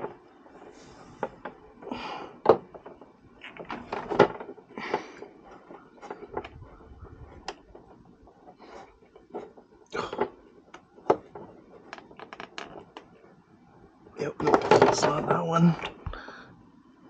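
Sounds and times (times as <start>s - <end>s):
tubes and tools clicking and knocking: 0.0s - 13.2s, 14.3s - 16.3s.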